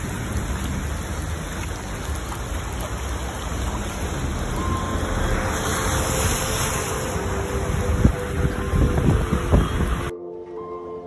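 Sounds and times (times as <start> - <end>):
car driving through flooded street: 0.0 - 10.1
steady rain: 0.0 - 10.1.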